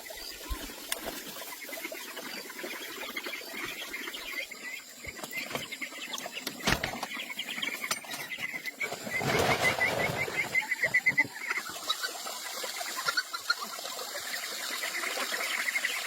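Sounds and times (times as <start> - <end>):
chickens calling: 0.0 - 16.0.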